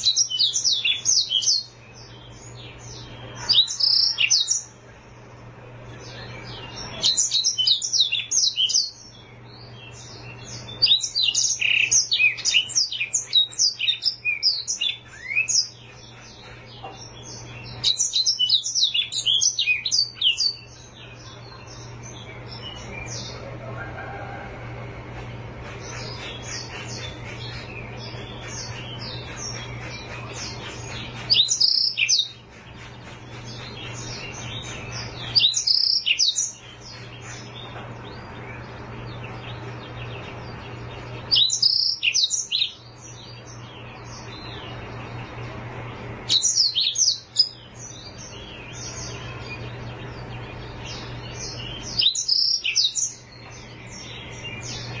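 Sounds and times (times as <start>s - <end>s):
canary singing: 0.0s - 24.8s, 25.6s - 55.0s.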